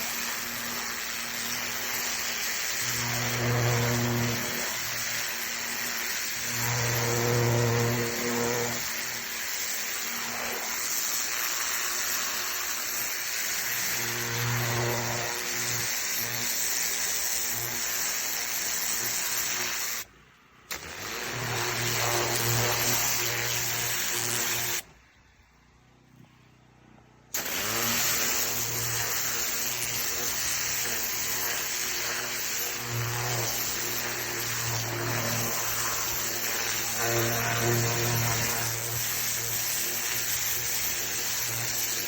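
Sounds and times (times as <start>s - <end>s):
high-pressure spray hiss: 0.0s - 20.1s, 21.6s - 24.8s, 27.4s - 42.0s
pressure washer engine hum: 0.0s - 25.9s, 27.3s - 42.0s.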